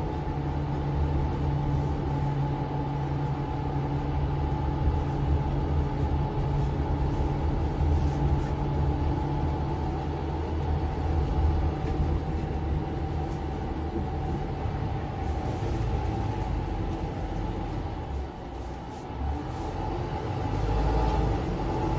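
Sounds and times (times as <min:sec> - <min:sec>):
bus engine running: 0:00.0 - 0:21.9
road rumble: 0:00.0 - 0:21.9.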